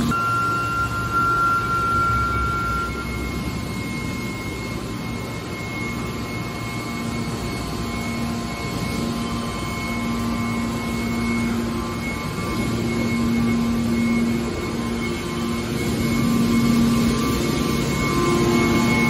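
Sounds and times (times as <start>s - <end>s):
hydraulic power unit drone: 0.0s - 19.0s
low hum: 0.0s - 19.0s.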